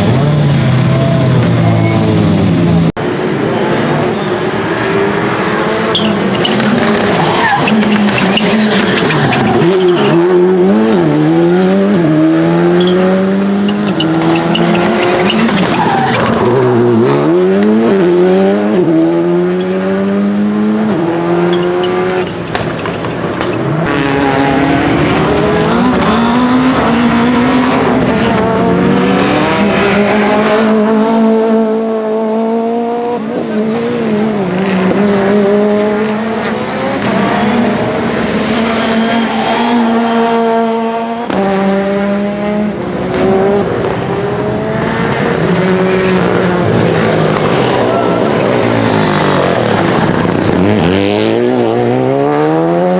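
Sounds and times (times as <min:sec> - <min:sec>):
rally car engine at full throttle: 0:00.0 - 0:52.9.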